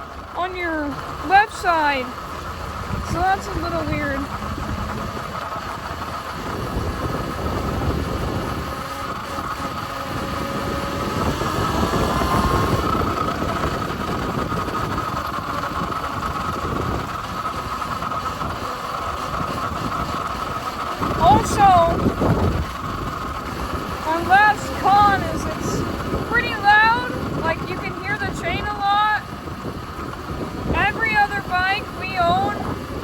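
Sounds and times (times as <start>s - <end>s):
electric motor whine: 0.0s - 33.0s
wind on microphone: 0.9s - 33.0s.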